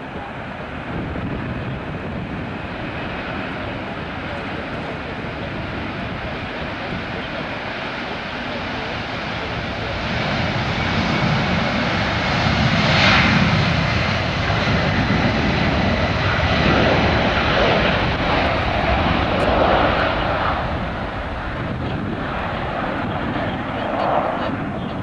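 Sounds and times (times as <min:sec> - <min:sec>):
aircraft engines running: 0:00.0 - 0:25.0.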